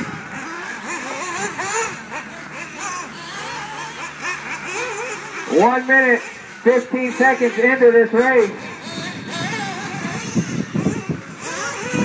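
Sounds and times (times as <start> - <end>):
rc car engines whining: 0.0 - 12.0.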